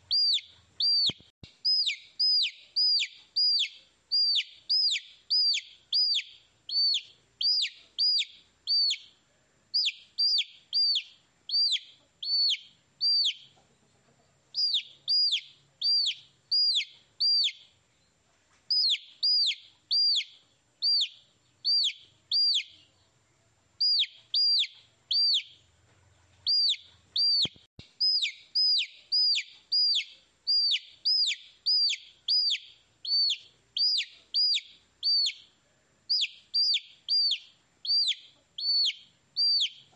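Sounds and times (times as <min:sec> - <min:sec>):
baby chicks peeping: 0:00.0 - 0:17.8, 0:18.7 - 0:39.9.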